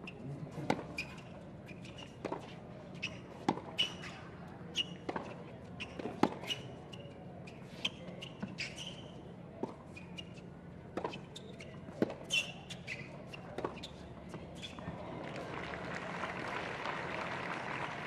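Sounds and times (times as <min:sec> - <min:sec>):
sneakers squeaking on court: 0:00.0 - 0:14.9.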